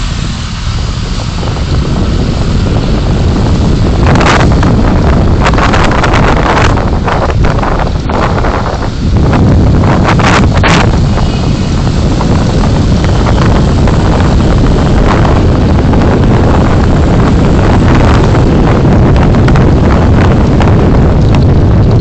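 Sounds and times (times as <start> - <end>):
car engine and road noise: 0.0 - 22.0
wind buffeting microphone: 0.0 - 22.0.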